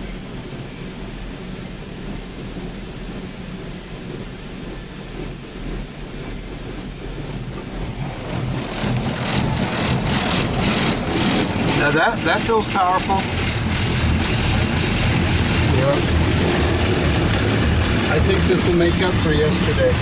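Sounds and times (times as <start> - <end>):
water jets spraying car body: 0.3 - 20.0.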